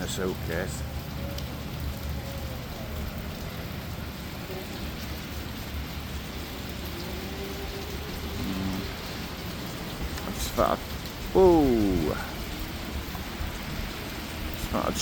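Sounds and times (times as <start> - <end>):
rain splashing on hard surfaces: 0.0 - 15.0.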